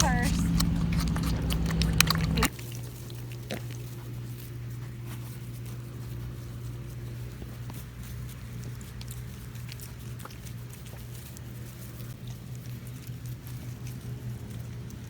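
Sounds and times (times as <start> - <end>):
piglets slurping and eating: 0.0 - 15.0
small wet pattering noises: 0.0 - 15.0
steady low hum: 0.0 - 15.0.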